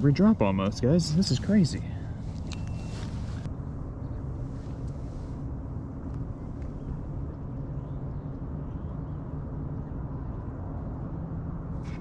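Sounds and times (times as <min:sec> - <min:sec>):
faint low hum: 0:00.0 - 0:12.0
wind rumbling on microphone: 0:00.0 - 0:12.0.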